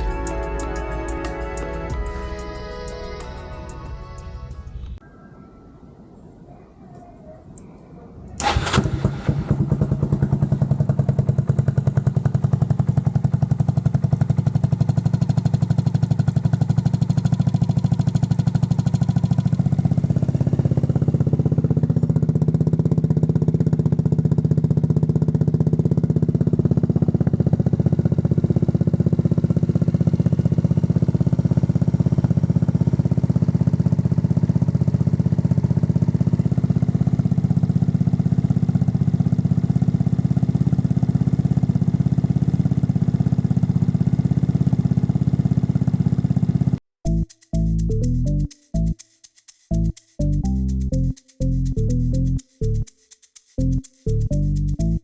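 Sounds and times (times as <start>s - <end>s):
scooter engine starting and idling: 0.0s - 4.2s, 8.4s - 49.0s.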